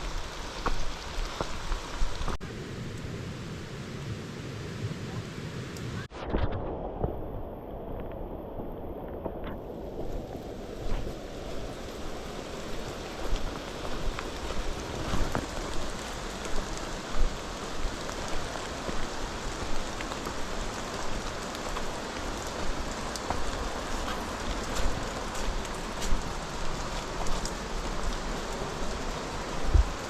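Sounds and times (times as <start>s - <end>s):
raindrops ticking close by: 0.0s - 2.4s, 7.9s - 30.0s
rain falling: 0.0s - 30.0s.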